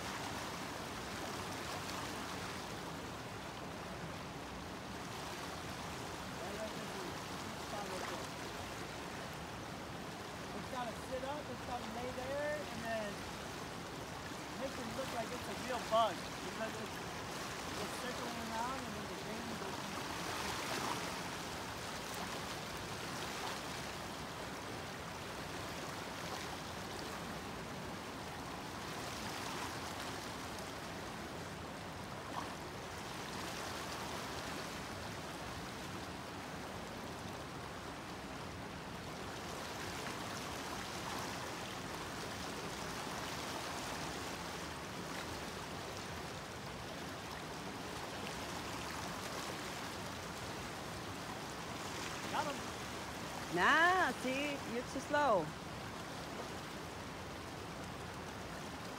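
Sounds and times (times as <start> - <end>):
stream rushing over gravel: 0.0 - 58.9.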